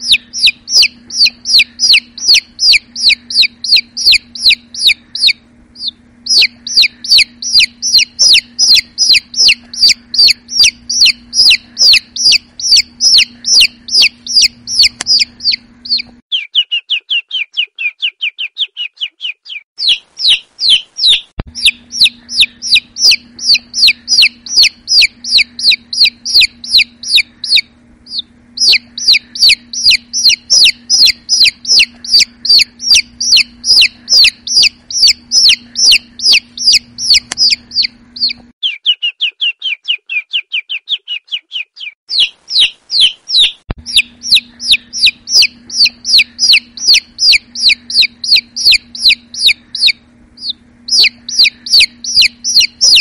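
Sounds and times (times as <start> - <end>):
chicks peeping: 0.0 - 53.0.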